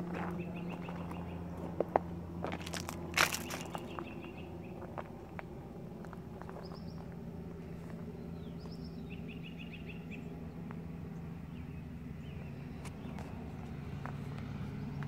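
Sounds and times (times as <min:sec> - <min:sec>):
steady low hum: 0:00.0 - 0:15.0
small birds chirping: 0:00.2 - 0:01.8, 0:02.5 - 0:05.5, 0:06.3 - 0:15.0.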